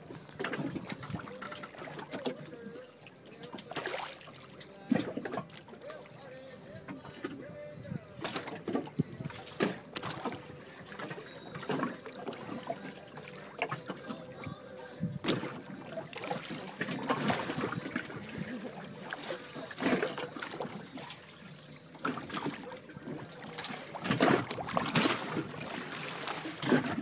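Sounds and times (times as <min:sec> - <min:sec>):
water splashing against boat hull: 0:00.0 - 0:27.0.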